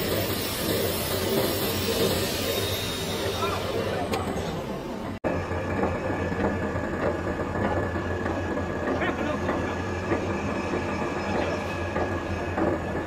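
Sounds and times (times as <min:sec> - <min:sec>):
machine motor hum: 0:00.0 - 0:13.0.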